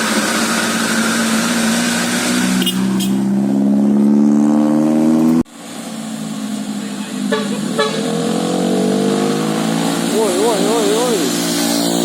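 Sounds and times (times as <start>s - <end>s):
bus engine accelerating: 0.0s - 12.0s.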